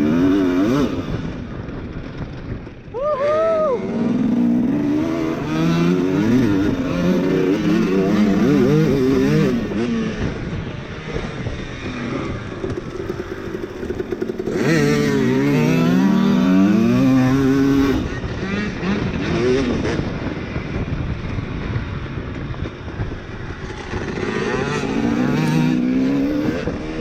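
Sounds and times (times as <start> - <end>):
dirt bike engine revving: 0.0 - 1.4, 3.4 - 21.1, 23.5 - 27.0.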